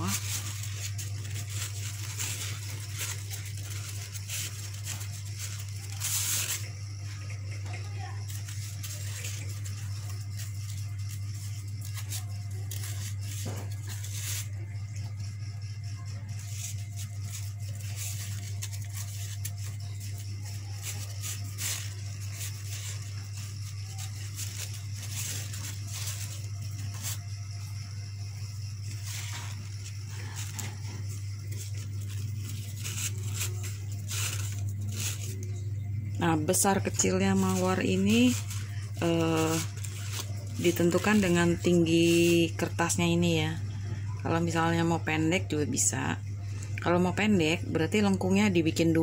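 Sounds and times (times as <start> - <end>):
crepe paper rustling and crinkling: 0.0 - 43.0
steady low hum: 0.0 - 49.0.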